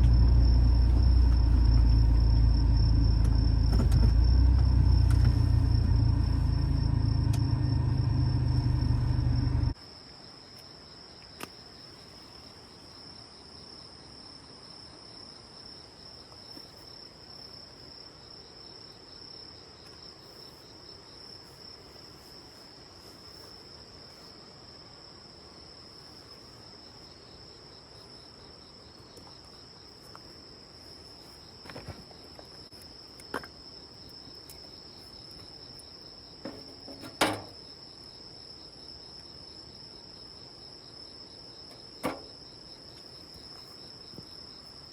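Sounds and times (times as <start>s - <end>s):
night insects trilling: 0.0s - 44.9s.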